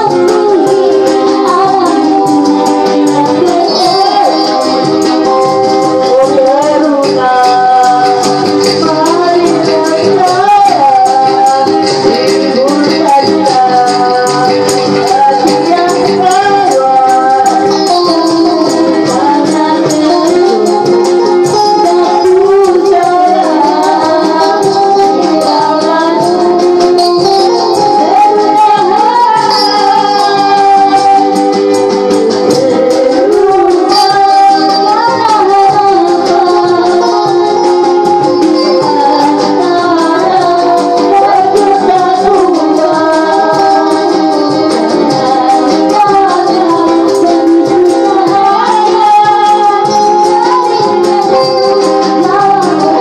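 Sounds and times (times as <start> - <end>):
person singing with accompaniment: 0.0 - 53.0
shaken rattling percussion: 0.0 - 53.0.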